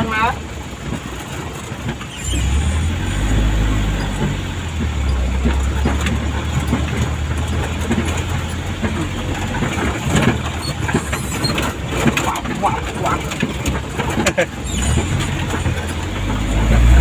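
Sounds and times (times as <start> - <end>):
vehicle engine hum: 0.0 - 17.0
small rattles: 0.7 - 17.0.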